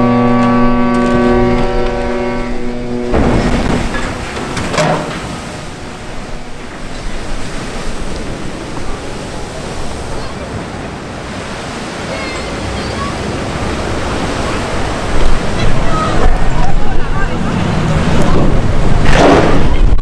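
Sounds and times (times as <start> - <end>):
water rushing and crashing: 0.0 - 20.0
loud splash: 0.8 - 20.0.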